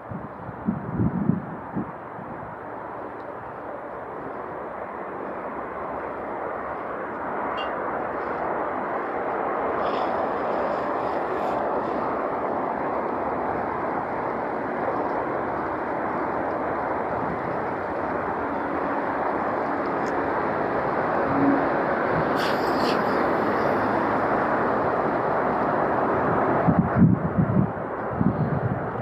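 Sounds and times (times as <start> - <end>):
rushing outdoor background noise: 0.0 - 29.0.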